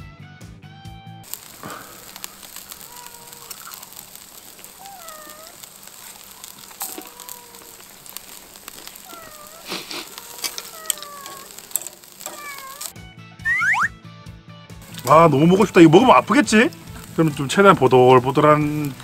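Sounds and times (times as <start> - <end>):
charcoal crackling and popping: 1.2 - 13.9, 14.8 - 19.0
meat sizzling on a grill: 1.2 - 13.9, 14.8 - 19.0
high mewing calls: 1.3 - 12.9, 14.8 - 19.0.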